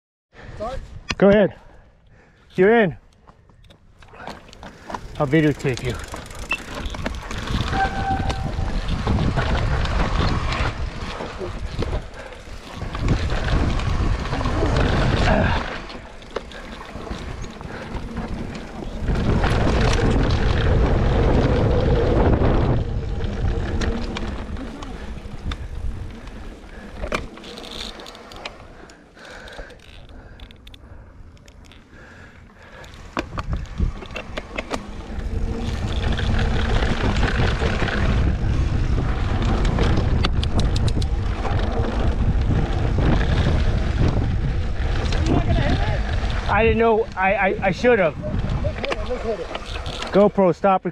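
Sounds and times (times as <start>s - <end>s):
tyres on dirt: 3.2s - 50.7s
bike clattering over bumps: 4.1s - 30.4s, 31.9s - 50.3s
wind rumble on microphone: 4.8s - 27.9s, 32.0s - 50.2s.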